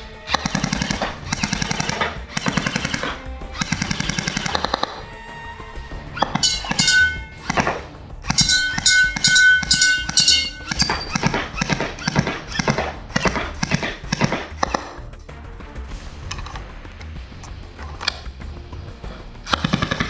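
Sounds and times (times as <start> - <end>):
music with clacking percussion: 0.0 - 20.0.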